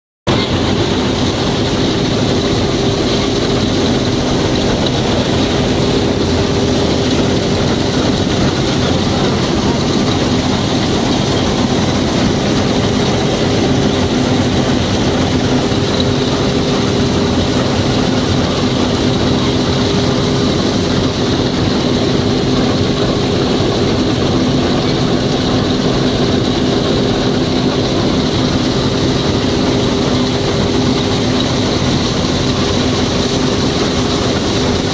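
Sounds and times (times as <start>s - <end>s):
combine harvester droning: 0.3s - 34.9s.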